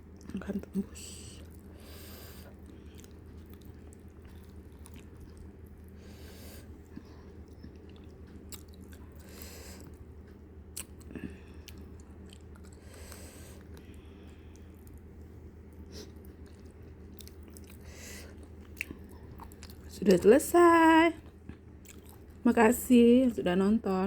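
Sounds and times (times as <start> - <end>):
chewing fried fish: 0.0 - 20.6, 21.2 - 22.4
steady low hum: 0.0 - 24.0.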